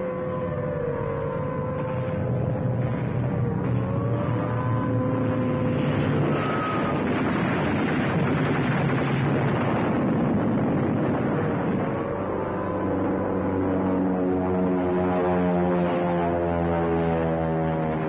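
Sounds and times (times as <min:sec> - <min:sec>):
rumbling roar of battle noise: 0:00.0 - 0:18.0.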